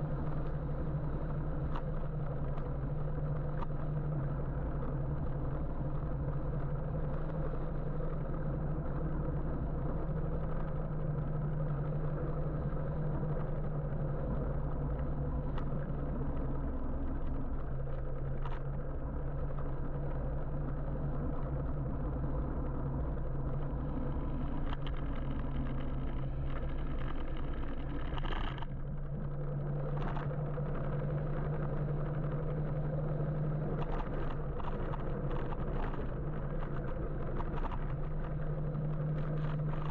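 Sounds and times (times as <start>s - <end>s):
low steady motor hum: 0.0s - 39.9s
road and wind noise: 0.0s - 39.9s.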